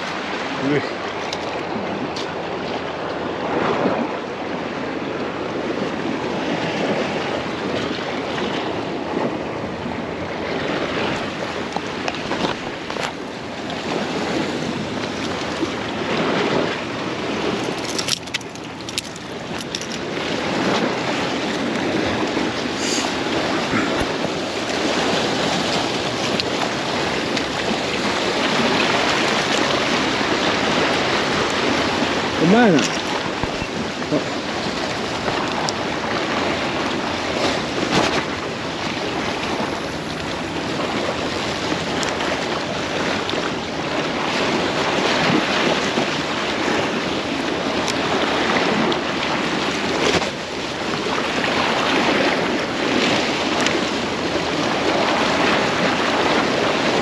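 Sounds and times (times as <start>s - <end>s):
sea surf washing against rocks: 0.0s - 57.0s
wind buffeting microphone: 0.0s - 57.0s.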